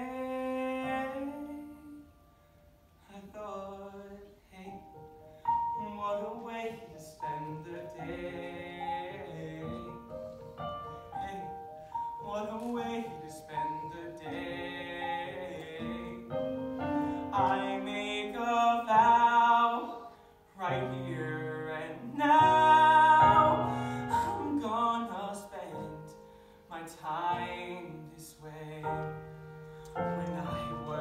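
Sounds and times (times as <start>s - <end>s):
man singing a ballad: 0.0s - 2.2s, 3.0s - 31.0s
piano accompaniment: 0.0s - 31.0s.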